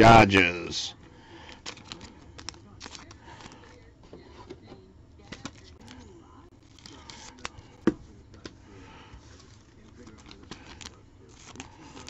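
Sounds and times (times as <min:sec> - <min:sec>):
cards and packaging handled: 0:01.3 - 0:12.0.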